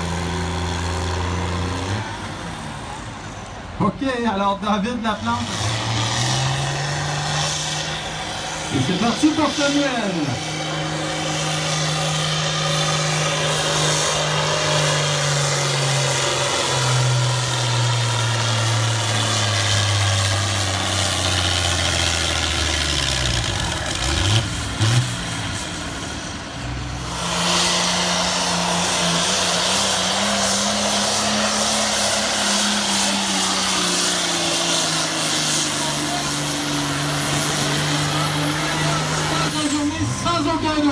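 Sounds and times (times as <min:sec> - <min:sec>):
tractor engine at full throttle: 0:00.0 - 0:40.9.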